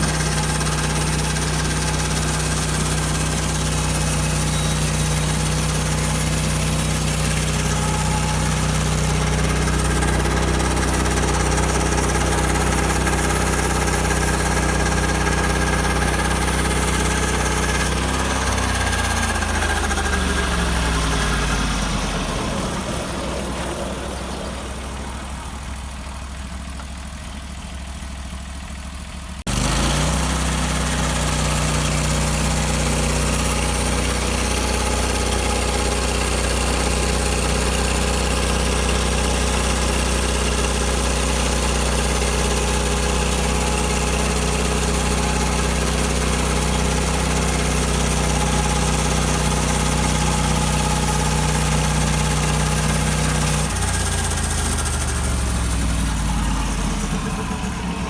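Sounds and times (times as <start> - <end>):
band blade sawing log: 0.0 - 24.9, 29.5 - 58.0
gas engine running: 0.0 - 58.0.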